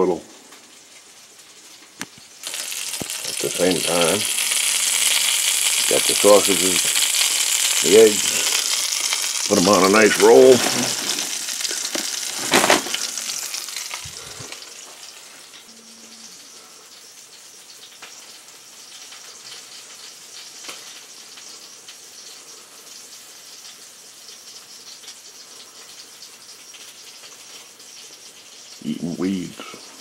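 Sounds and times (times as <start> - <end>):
food sizzling in a frying pan: 0.0 - 30.0.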